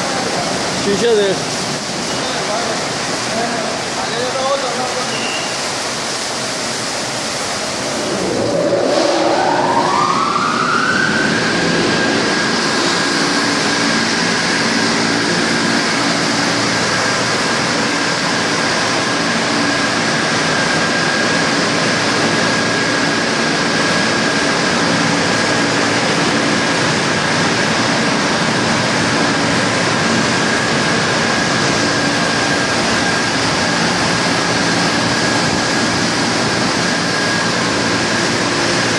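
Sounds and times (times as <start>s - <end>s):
car wash machine rushing: 0.0s - 38.9s
low motor hum: 7.5s - 38.9s
motor whine rising: 7.5s - 38.9s.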